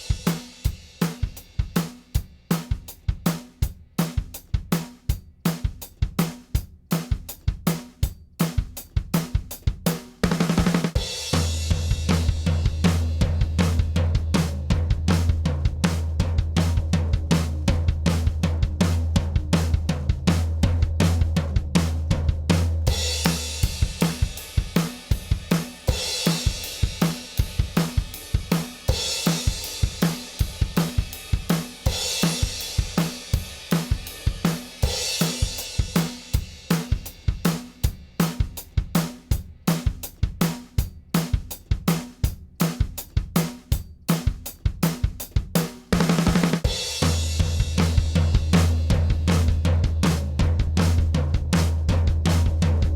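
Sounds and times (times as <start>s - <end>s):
drum kit playing a beat: 0.0s - 52.9s.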